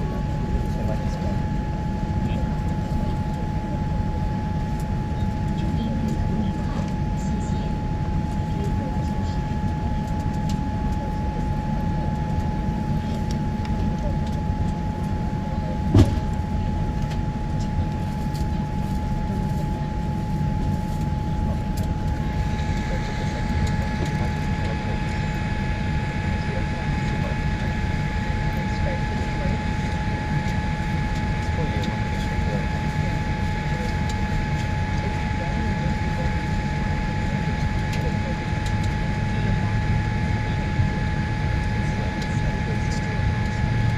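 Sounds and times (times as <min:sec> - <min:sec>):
airliner engines and airflow rumble: 0:00.0 - 0:43.9
constant whine: 0:00.0 - 0:43.9.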